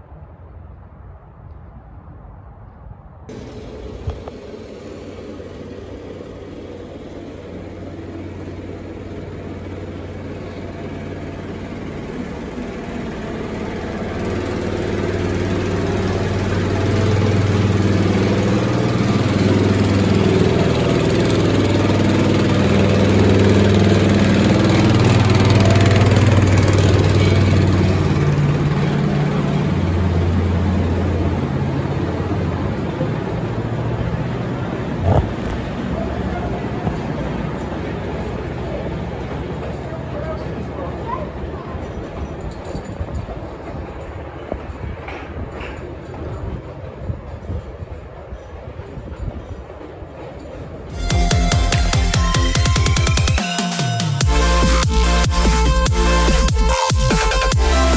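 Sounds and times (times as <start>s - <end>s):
diesel locomotive engine running: 3.3s - 57.9s.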